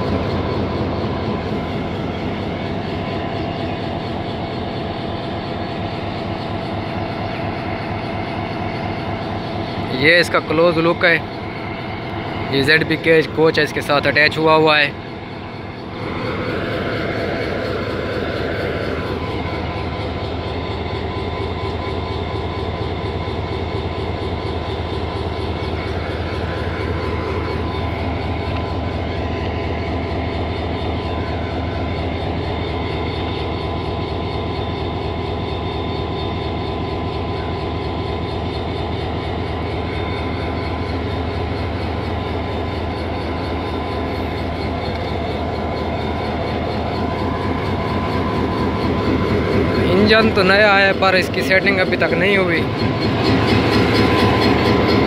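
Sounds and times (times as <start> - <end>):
diesel locomotive engine hum: 0.0 - 55.0.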